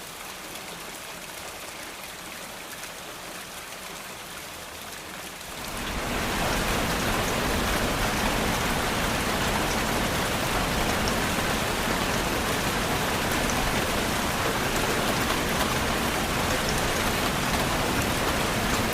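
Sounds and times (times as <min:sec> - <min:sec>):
steady rain hissing: 0:00.0 - 0:18.9.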